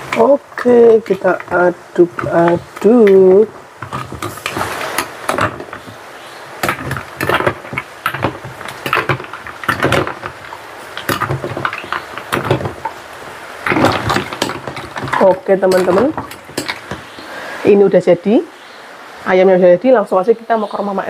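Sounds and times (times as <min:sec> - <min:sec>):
liquid sloshing: 0:00.0 - 0:17.4.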